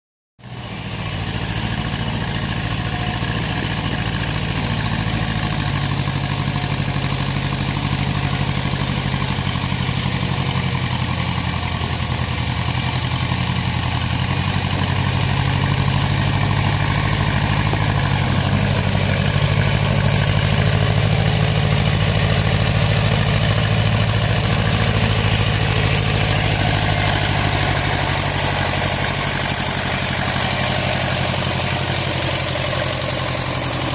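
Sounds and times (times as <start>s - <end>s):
backhoe engine idling: 0.4s - 33.9s.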